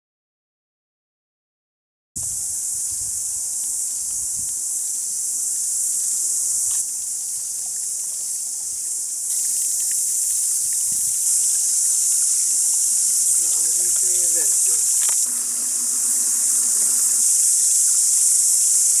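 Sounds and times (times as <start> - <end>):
cicadas shrilling: 2.2 - 19.0.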